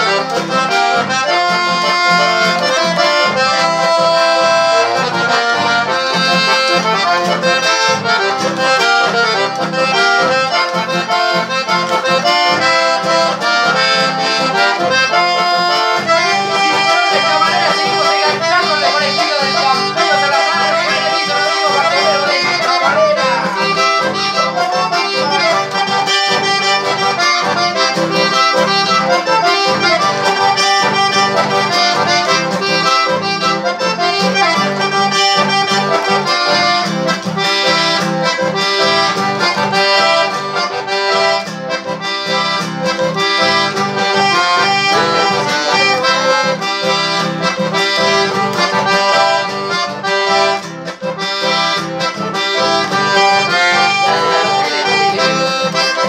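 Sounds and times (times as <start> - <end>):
button accordion melody: 0.0 - 56.0
strummed acoustic guitar: 0.0 - 56.0.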